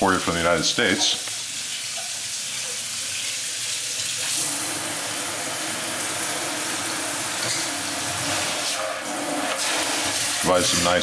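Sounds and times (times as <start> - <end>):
faucet water running into sink: 0.0 - 11.0.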